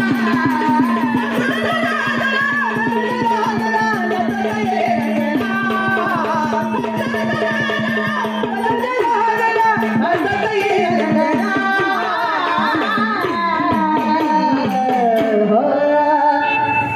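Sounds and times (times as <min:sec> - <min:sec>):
person singing devotional song: 0:00.0 - 0:16.6
tabla strokes: 0:00.0 - 0:16.9.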